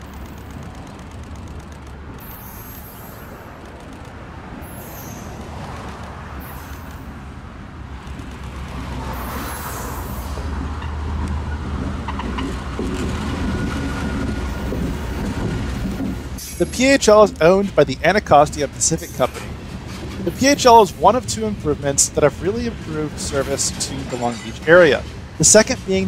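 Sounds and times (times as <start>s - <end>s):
diesel locomotive engine rumble: 0.0s - 26.0s
wheels clicking on rails: 0.0s - 26.0s.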